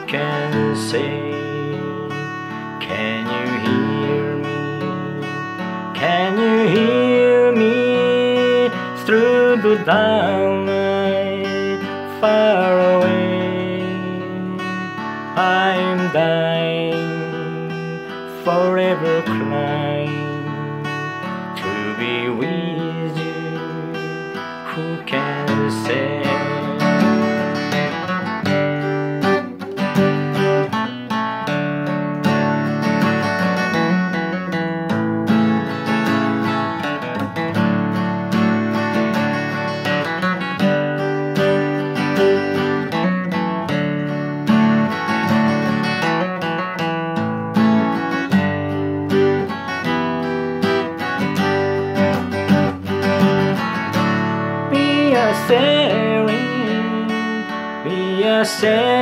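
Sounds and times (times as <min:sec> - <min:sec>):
acoustic guitar strumming chords: 0:00.0 - 0:59.0.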